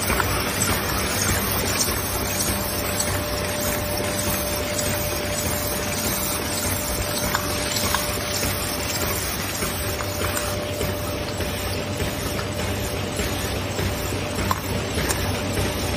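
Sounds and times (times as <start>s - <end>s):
machine running: 0.0s - 15.9s.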